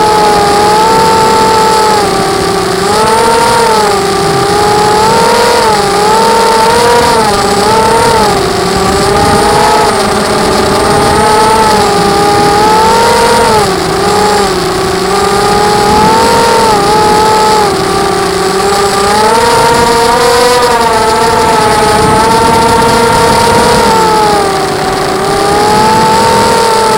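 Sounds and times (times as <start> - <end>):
quadcopter motors whining: 0.0 - 26.9.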